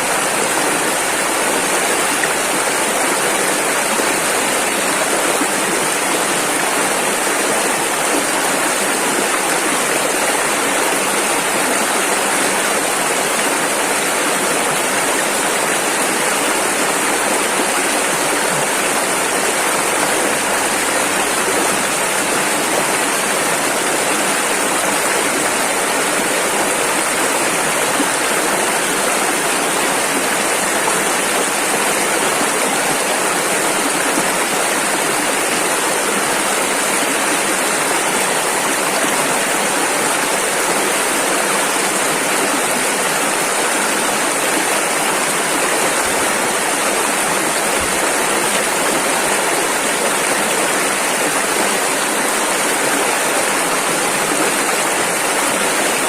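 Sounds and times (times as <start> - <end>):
river water rushing over rapids: 0.0 - 56.0.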